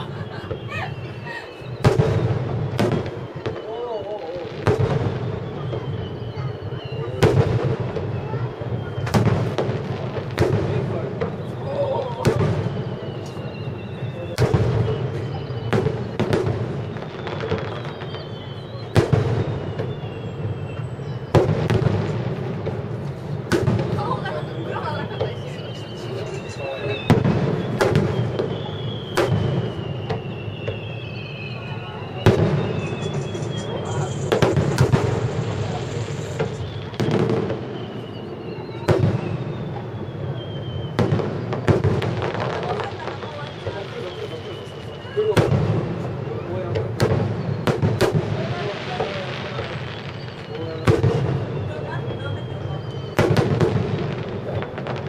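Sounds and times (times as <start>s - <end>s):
firework crackling: 0.0s - 55.0s
firework shells booming: 0.0s - 55.0s.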